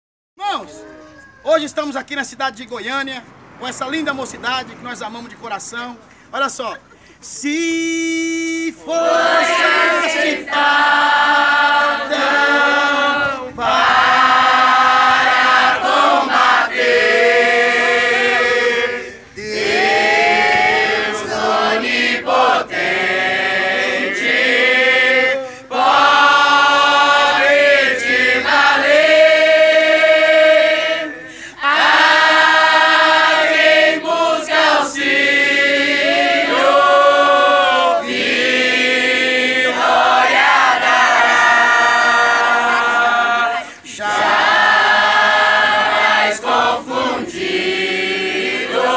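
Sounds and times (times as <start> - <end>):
choir singing: 8.9 - 48.9.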